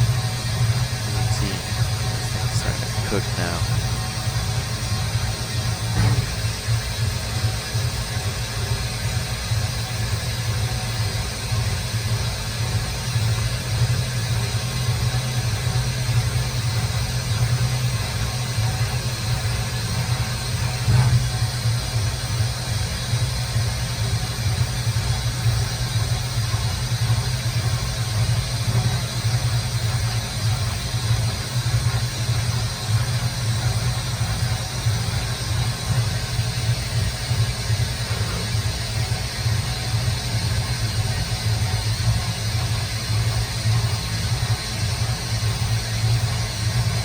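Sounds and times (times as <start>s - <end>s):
cnc machine drilling metal: 0.0s - 47.0s.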